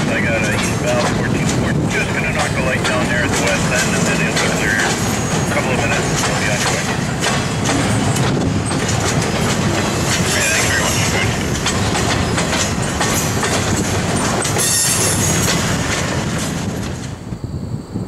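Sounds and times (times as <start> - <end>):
wheels clicking over rail joints: 0.0 - 17.2
freight train rolling past: 0.0 - 18.0.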